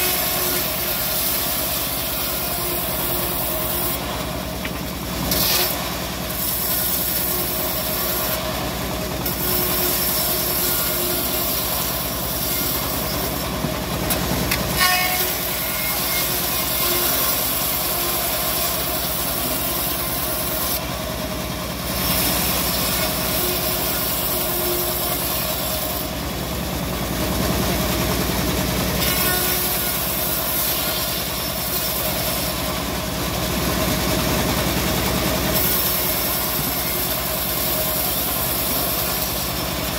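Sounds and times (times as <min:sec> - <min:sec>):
bandsaw blade cutting wood: 0:00.0 - 0:39.9.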